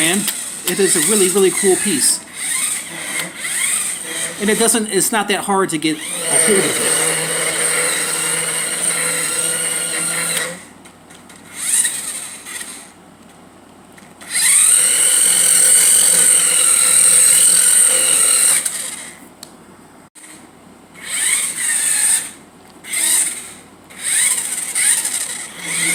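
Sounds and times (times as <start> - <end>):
toy car electric motor whining: 0.0 - 5.2, 6.0 - 10.7, 11.3 - 13.0, 14.2 - 19.2, 21.0 - 25.9.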